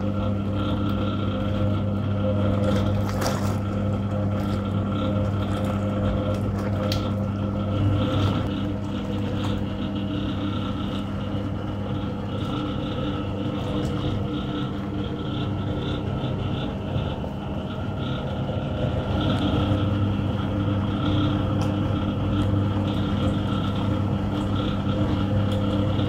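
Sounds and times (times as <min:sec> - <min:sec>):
washing machine motor hum: 0:00.0 - 0:26.0
water churning in tub: 0:00.0 - 0:26.0.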